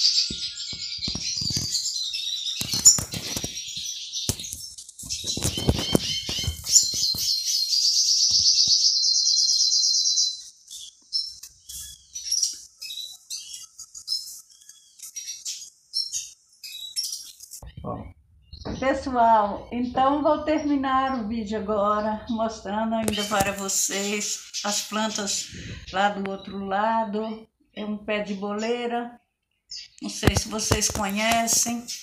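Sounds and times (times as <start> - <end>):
songbirds chirping and twittering: 0.0 - 32.0.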